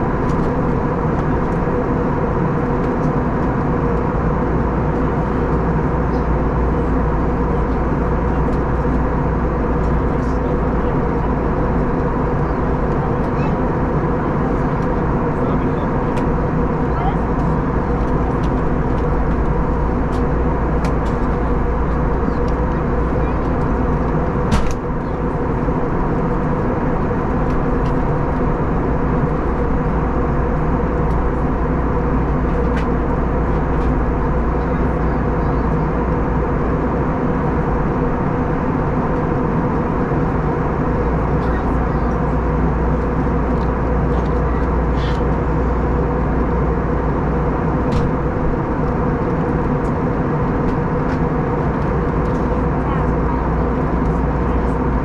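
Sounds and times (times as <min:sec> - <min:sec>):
steady engine hum: 0:00.0 - 0:55.0.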